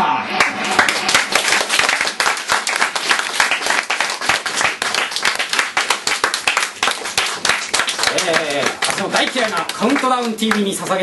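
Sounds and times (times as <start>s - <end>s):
audience applauding: 0.3s - 11.0s.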